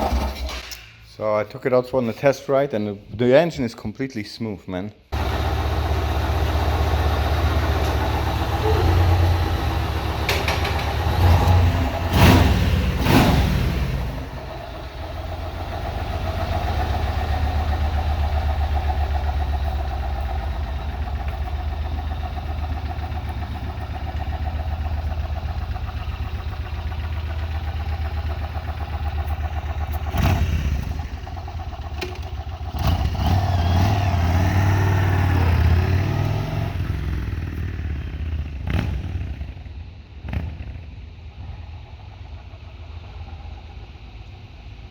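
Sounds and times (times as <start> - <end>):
motorcycle engine running and revving: 5.2 - 44.1.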